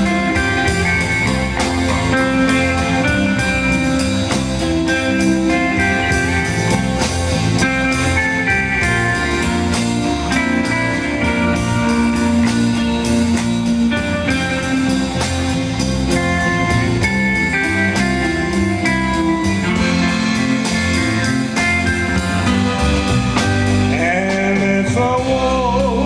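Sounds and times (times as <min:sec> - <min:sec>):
live guitar band playing: 0:00.0 - 0:26.0.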